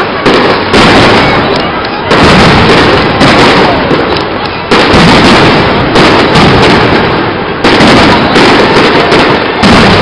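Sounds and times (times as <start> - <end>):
firework shells bursting: 0.0 - 10.0.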